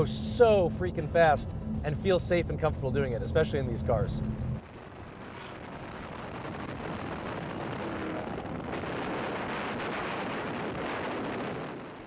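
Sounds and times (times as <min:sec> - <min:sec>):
wind and tyre noise: 0:00.0 - 0:12.0.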